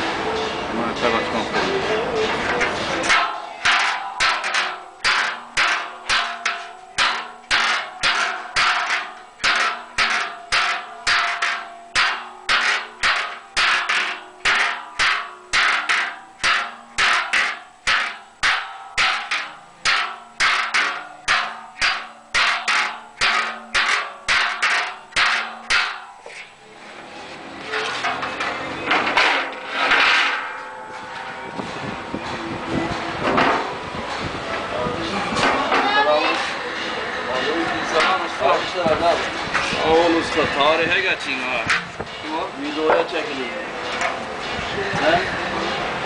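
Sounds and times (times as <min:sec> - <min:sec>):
hammer striking metal cauldron: 0:00.0 - 0:26.8, 0:27.6 - 0:34.6, 0:35.2 - 0:46.0.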